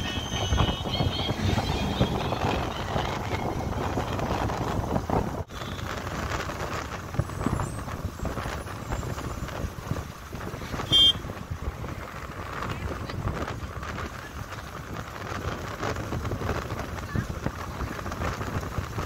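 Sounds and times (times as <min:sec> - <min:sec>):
motorcycle engine running: 0:00.0 - 0:19.0
road noise: 0:00.0 - 0:19.0
wind rushing over microphone: 0:00.0 - 0:19.0.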